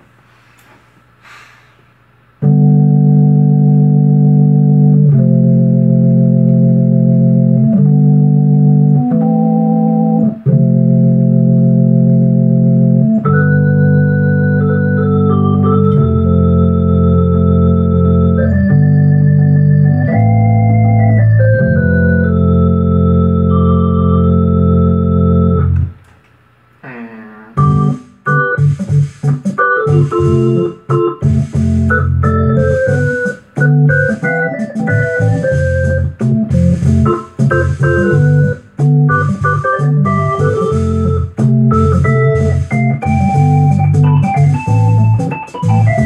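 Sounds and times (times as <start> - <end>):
organ playing chords: 2.4 - 26.0, 27.6 - 46.0.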